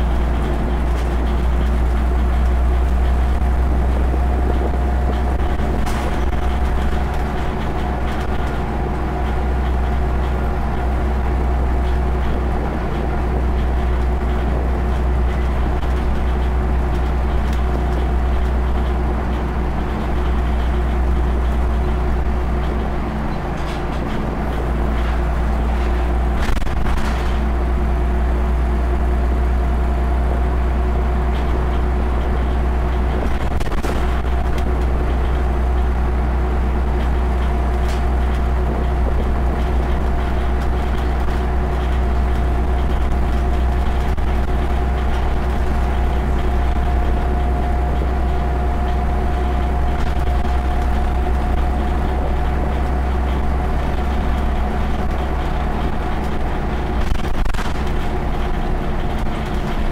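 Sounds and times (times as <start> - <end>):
rattles and knocks: 0.0 - 29.3, 30.0 - 59.9
bus engine drone: 0.0 - 59.9.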